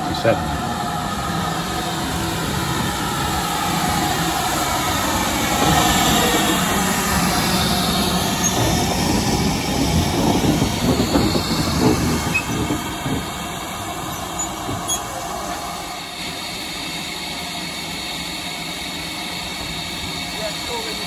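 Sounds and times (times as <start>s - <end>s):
locomotive mechanical rumble: 0.0s - 21.0s
steam locomotive hissing: 0.0s - 21.0s.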